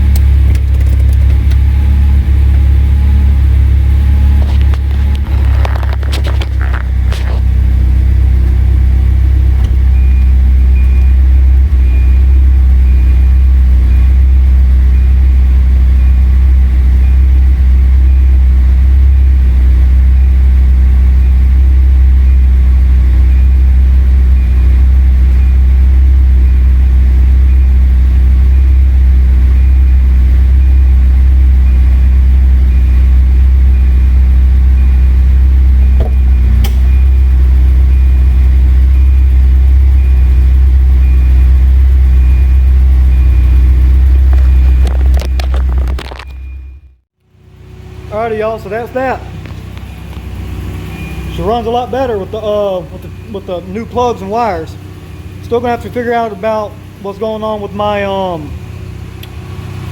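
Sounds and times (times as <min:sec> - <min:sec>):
car engine and road drone: 0:00.0 - 0:59.9.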